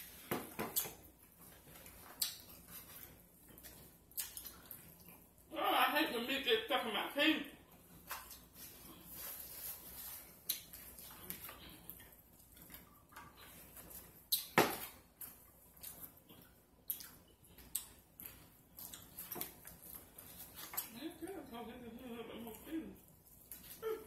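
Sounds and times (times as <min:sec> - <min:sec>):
wet chewing and lip-smacking: 0:00.7 - 0:05.5, 0:07.6 - 0:21.1, 0:22.4 - 0:24.0.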